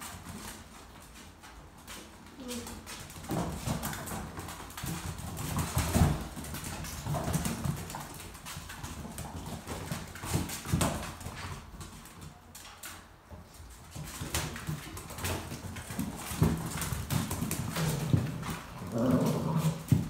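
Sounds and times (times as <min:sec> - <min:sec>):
puppies scuffling: 0:00.0 - 0:20.0
puppy claws skittering on floor: 0:00.0 - 0:20.0.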